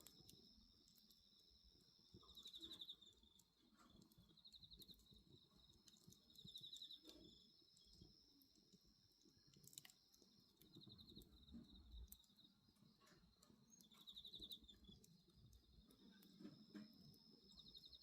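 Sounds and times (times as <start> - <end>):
night insects chorus: 0.0 - 3.3, 4.0 - 18.0
bonfire crackling: 0.0 - 18.0
pulsed insect trills: 0.0 - 18.0.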